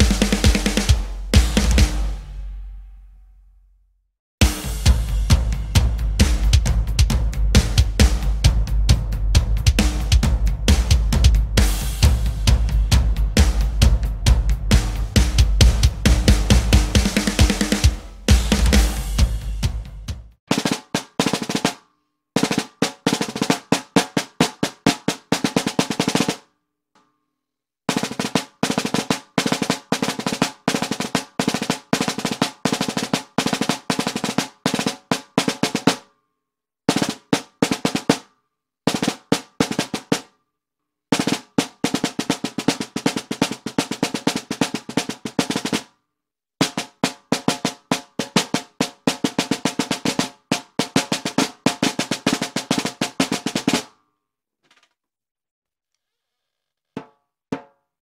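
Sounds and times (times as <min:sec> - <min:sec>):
snare drum rolls: 0:00.0 - 0:02.7, 0:04.4 - 0:21.8, 0:22.4 - 0:26.4, 0:27.9 - 0:36.0, 0:36.9 - 0:38.3, 0:38.9 - 0:40.3, 0:41.1 - 0:45.9, 0:46.6 - 0:53.9.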